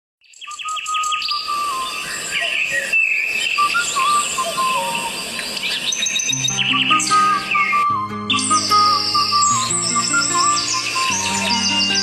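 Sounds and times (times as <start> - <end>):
birds chirping chorus: 0.2 - 12.0
whistled bird notes: 0.2 - 12.0.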